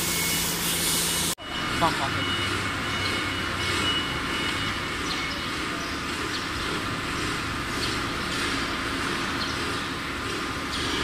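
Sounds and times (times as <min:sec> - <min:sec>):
glass washing machine running: 0:01.8 - 0:11.0.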